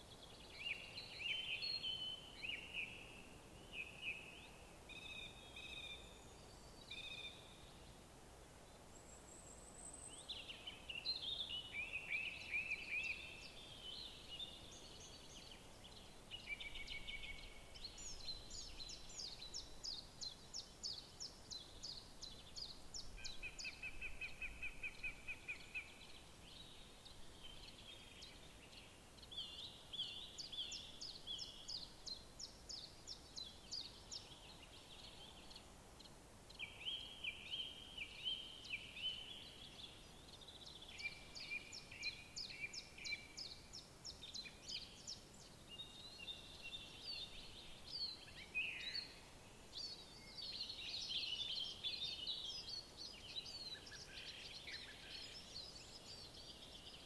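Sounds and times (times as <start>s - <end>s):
songbirds singing: 0.0s - 8.1s, 8.9s - 57.0s
faint steady background hiss: 0.0s - 57.0s.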